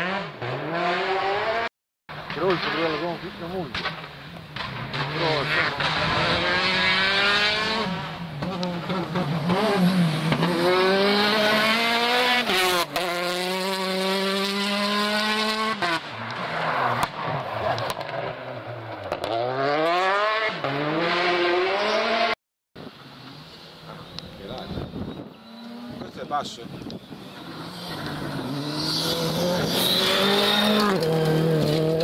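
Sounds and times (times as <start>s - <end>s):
rally car engine revving: 0.0s - 4.0s, 4.6s - 22.4s, 25.4s - 32.0s.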